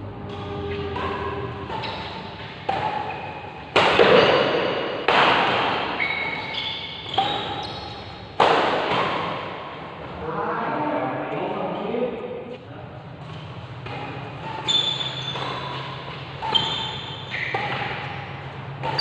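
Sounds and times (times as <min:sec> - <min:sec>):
rackets hitting shuttlecock: 0:00.2 - 0:09.8, 0:13.2 - 0:19.0.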